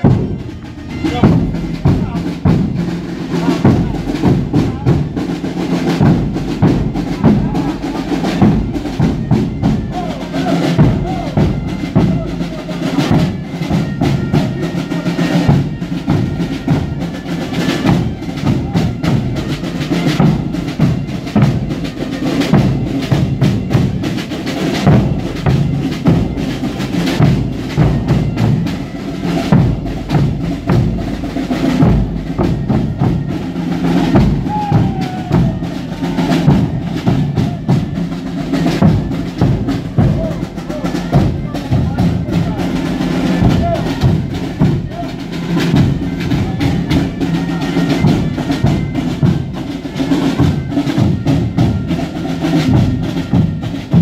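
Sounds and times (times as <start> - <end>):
bass and snare drums marching beat: 0.0 - 54.0.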